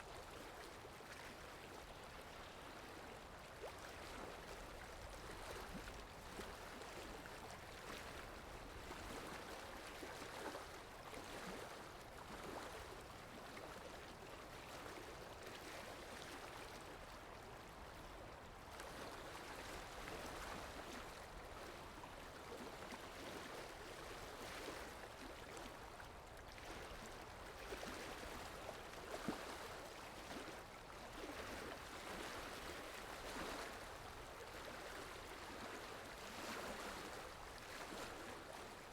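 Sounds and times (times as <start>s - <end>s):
seawater lapping and splashing: 0.1s - 38.9s.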